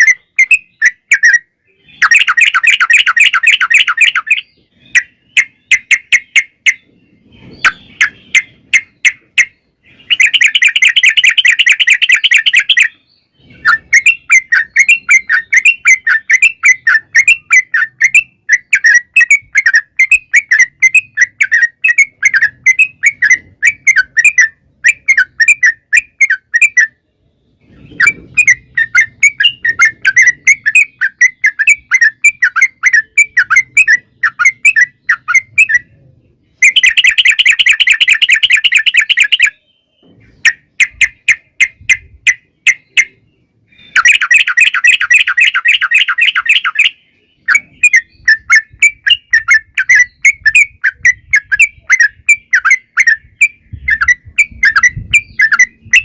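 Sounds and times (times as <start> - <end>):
bird trilling and chattering: 0.0 - 56.0.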